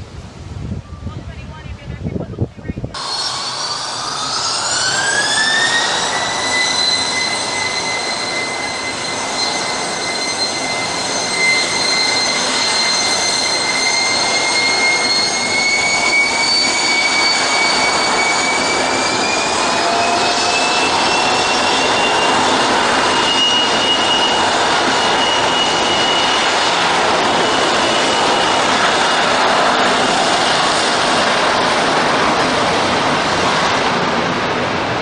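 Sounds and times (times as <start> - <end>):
jet engine rushing noise: 0.0 - 35.0
jet engine whine: 0.0 - 35.0.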